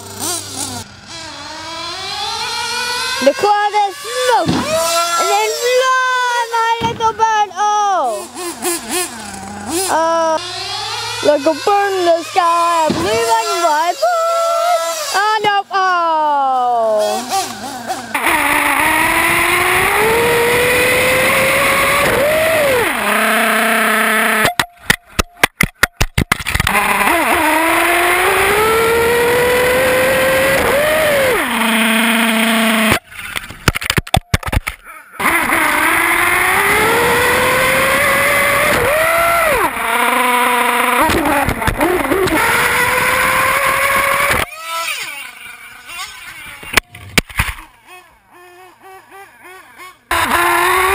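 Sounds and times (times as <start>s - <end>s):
small model car engine revving: 0.0s - 24.6s, 26.3s - 50.9s.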